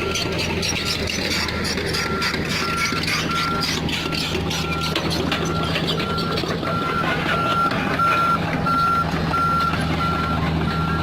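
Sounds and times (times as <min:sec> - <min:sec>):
diesel engine running: 0:00.0 - 0:11.0
reversing alarm beeping: 0:00.0 - 0:11.0.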